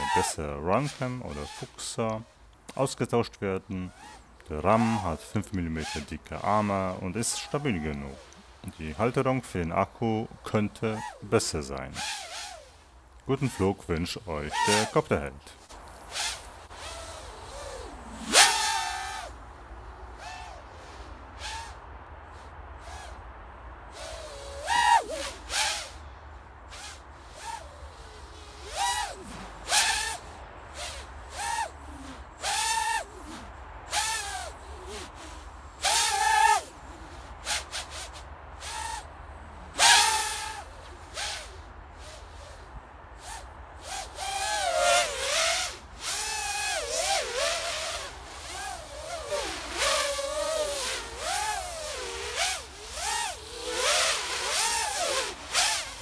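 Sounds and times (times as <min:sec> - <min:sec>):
quadcopter motors whining: 0:00.0 - 0:02.2, 0:03.7 - 0:09.2, 0:10.8 - 0:13.8, 0:14.4 - 0:19.4, 0:20.2 - 0:20.6, 0:21.4 - 0:21.8, 0:22.8 - 0:23.2, 0:23.9 - 0:26.0, 0:26.7 - 0:39.1, 0:39.8 - 0:56.0.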